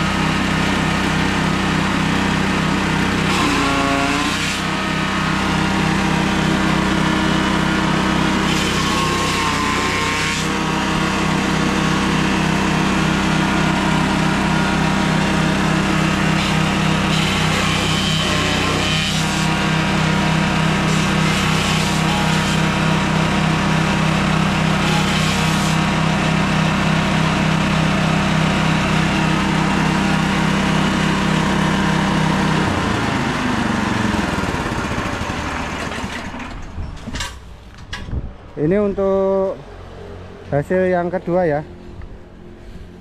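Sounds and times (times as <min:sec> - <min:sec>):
grass chopper engine running: 0:00.0 - 0:36.7.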